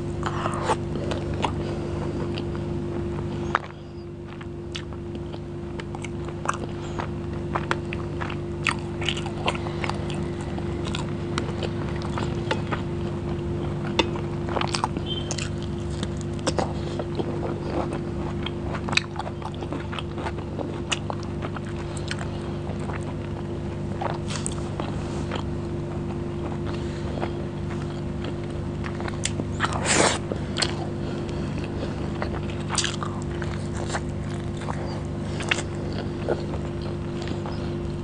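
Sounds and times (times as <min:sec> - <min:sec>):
person chewing with wet mouth sounds: 0:00.0 - 0:38.0
steady low hum: 0:00.0 - 0:38.0.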